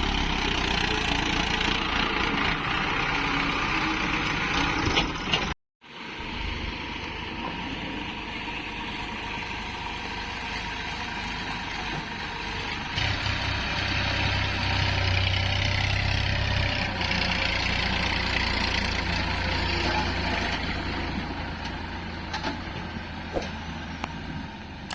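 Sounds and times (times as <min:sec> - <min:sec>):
heavy diesel engine running: 0:00.0 - 0:24.9.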